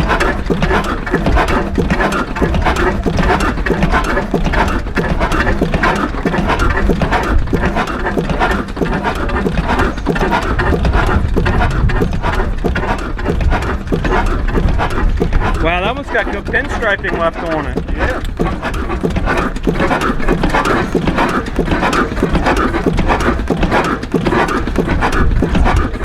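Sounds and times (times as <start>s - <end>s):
stationary engine running: 0.0s - 26.0s.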